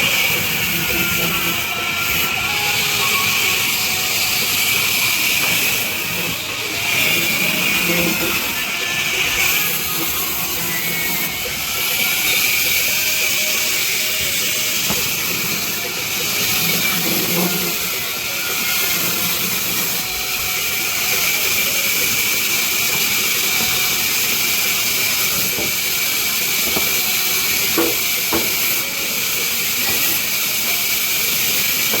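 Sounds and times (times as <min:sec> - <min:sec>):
band saw cutting wood: 0:00.0 - 0:32.0.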